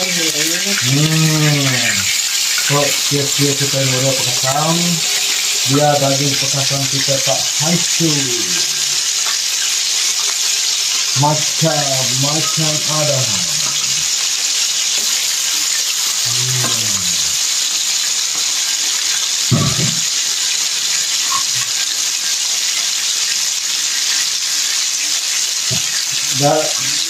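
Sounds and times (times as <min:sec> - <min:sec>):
fish deep-frying in oil: 0:00.0 - 0:27.0.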